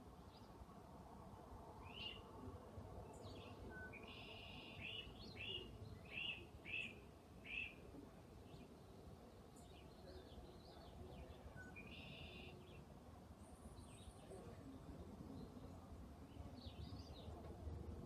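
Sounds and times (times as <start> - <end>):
low background hiss: 0.0 - 18.0
faint bird chirping: 1.8 - 17.6.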